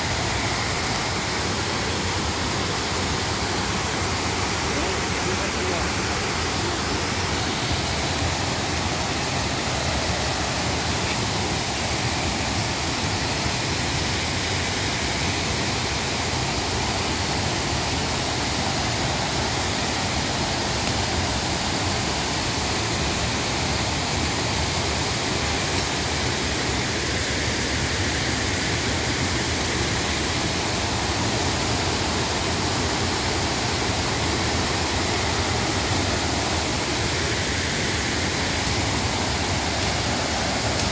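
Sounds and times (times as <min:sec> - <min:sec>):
river rushing down a waterfall: 0:00.0 - 0:40.9.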